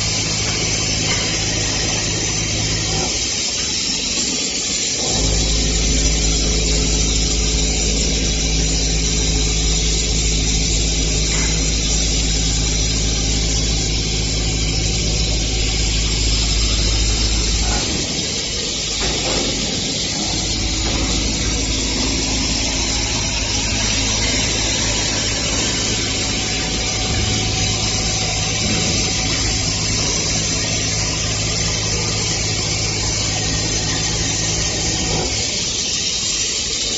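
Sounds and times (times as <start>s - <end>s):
deep machine hum: 0.0s - 3.4s, 5.0s - 36.0s
constant machine hiss: 0.0s - 36.9s.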